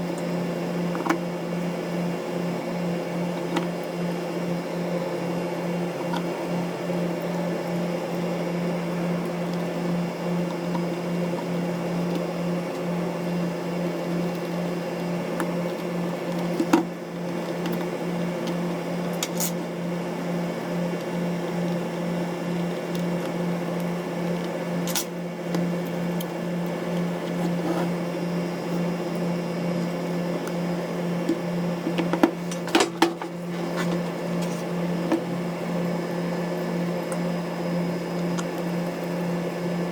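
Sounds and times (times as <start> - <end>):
low machine hum with tones: 0.0 - 39.9.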